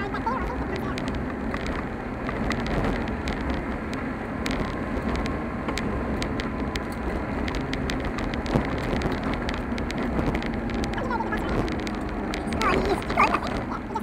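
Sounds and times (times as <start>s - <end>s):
car tyres and engine rumble: 0.0s - 14.0s
small ticks and rattles: 0.1s - 13.8s.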